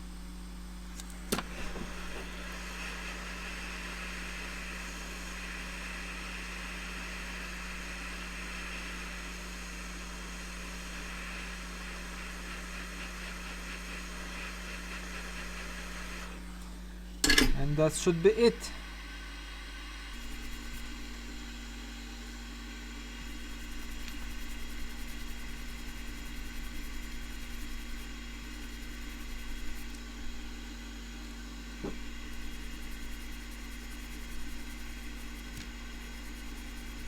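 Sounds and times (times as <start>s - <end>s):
hot air station hissing: 1.4s - 19.1s, 23.0s - 31.0s, 31.8s - 37.0s.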